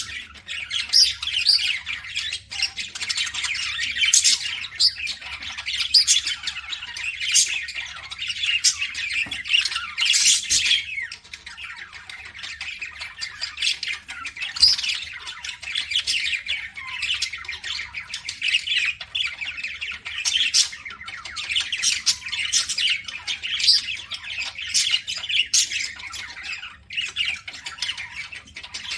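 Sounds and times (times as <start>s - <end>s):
budgerigars chattering and squawking: 0.0s - 28.9s.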